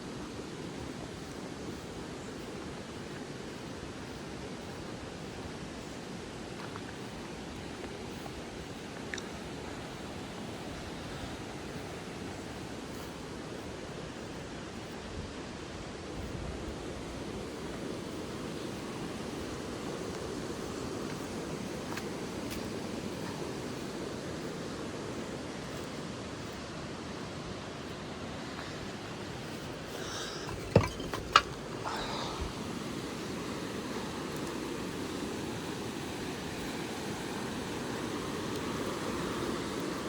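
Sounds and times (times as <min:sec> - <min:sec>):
steady rushing ambient noise: 0:00.0 - 0:40.0.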